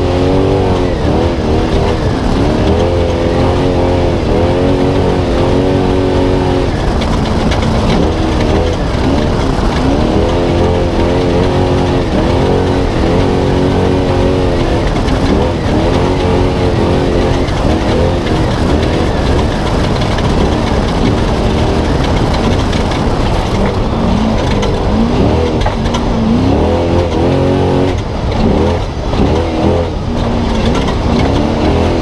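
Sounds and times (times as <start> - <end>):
heavy rumble and rattle: 0.0 - 32.0
truck engine revving: 0.0 - 32.0.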